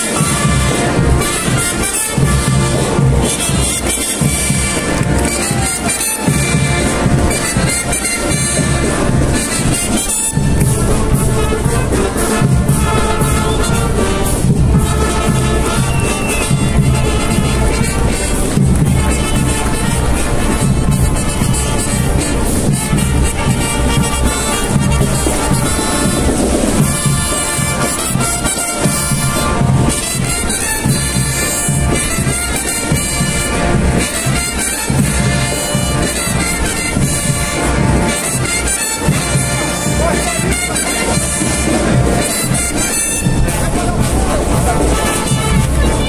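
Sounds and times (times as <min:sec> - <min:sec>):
brass instruments playing melody: 0:00.0 - 0:46.0
marching drums: 0:00.0 - 0:46.0.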